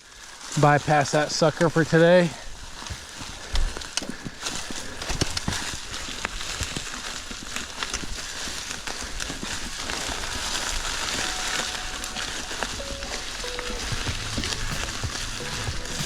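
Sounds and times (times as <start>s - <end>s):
tyres hissing through leaves: 0.0s - 16.0s.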